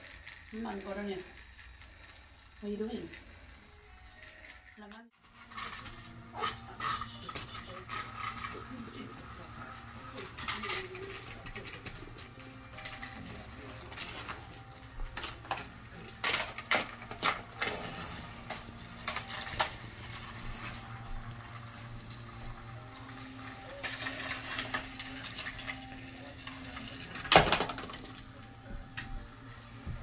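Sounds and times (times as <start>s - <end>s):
plastic toy trains clacking: 0.0s - 3.5s, 4.2s - 30.0s.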